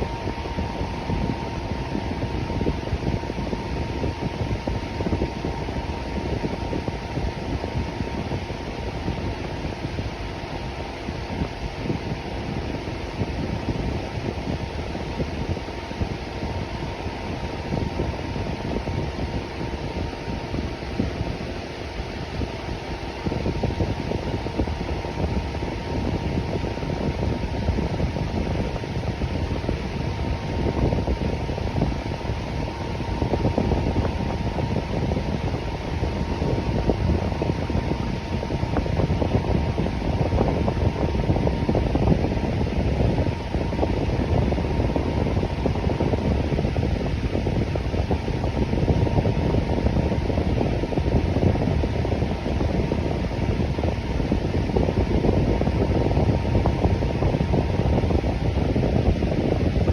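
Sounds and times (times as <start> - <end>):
electric fan running: 0.0 - 59.9
faint high hum: 0.0 - 59.9.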